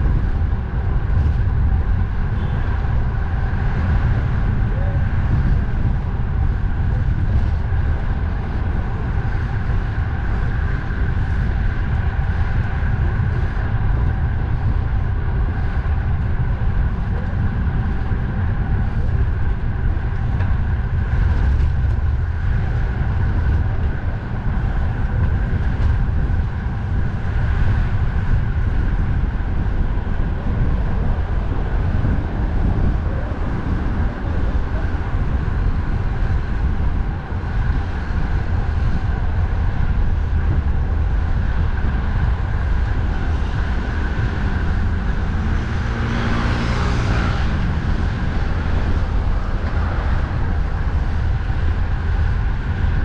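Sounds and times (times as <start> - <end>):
road traffic hum: 0.0 - 53.0
wind rumble on microphone: 0.0 - 53.0.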